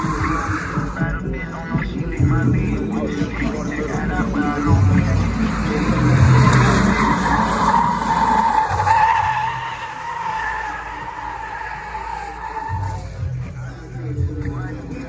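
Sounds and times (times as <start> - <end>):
car engine running: 0.0 - 15.0
car tyres screeching: 0.0 - 15.0.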